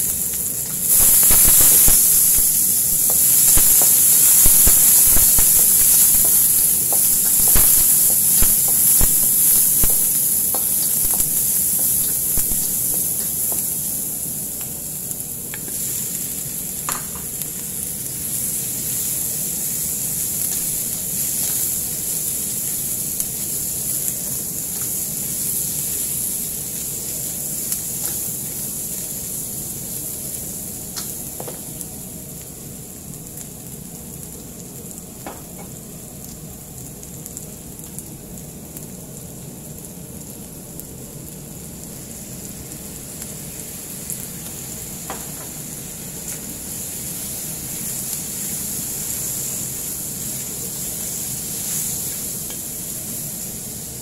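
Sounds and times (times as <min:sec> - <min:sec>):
food sizzling in a wok: 0:00.0 - 0:54.0.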